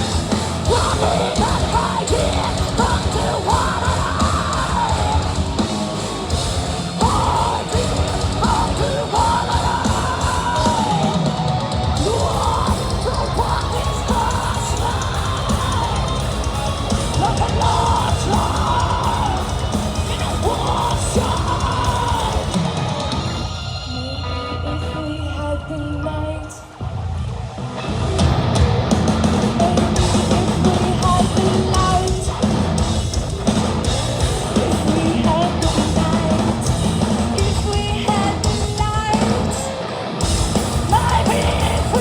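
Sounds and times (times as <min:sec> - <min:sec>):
drum kit pounding: 0:00.0 - 0:23.5, 0:27.9 - 0:42.0
heavy metal band playing: 0:00.0 - 0:42.0
woman singing: 0:00.1 - 0:05.4, 0:07.0 - 0:22.6, 0:23.8 - 0:26.8, 0:29.5 - 0:32.4, 0:34.3 - 0:39.9, 0:40.8 - 0:42.0.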